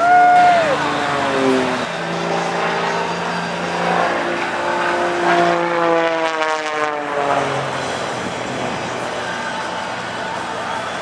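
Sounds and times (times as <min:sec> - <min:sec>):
propeller plane engine running: 0:00.0 - 0:11.0.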